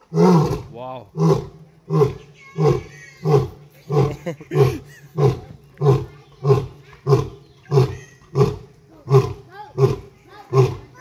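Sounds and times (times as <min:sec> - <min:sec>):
lion roaring in deep grunts: 0:00.1 - 0:10.9.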